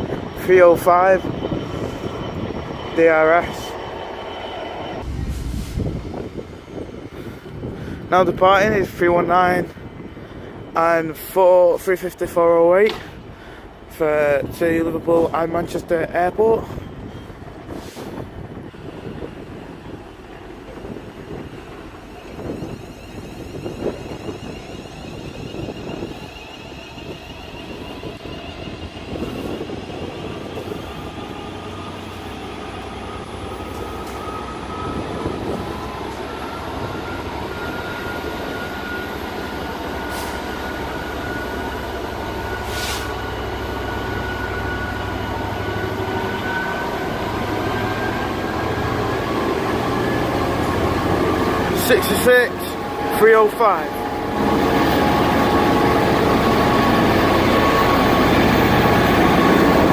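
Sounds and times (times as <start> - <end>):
train traction motors whining: 0.0 - 59.9.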